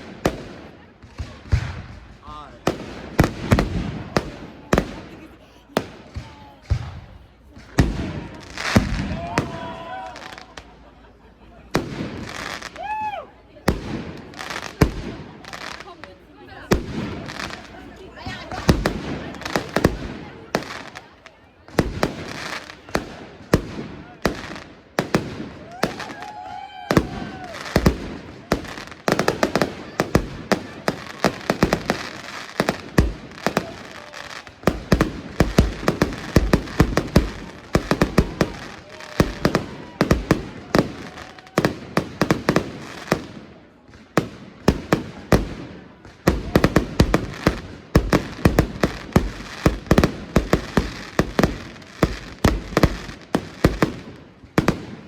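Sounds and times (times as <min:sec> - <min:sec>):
fireworks bursting with bangs: 0:00.0 - 0:55.0
fireworks crackle: 0:00.0 - 0:55.0.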